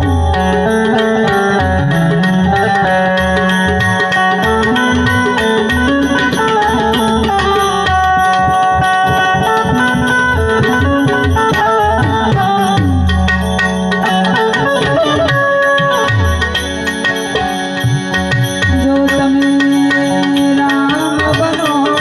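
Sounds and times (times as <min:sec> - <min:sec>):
harmonium melody: 0:00.0 - 0:22.0
tabla rhythm: 0:00.0 - 0:22.0.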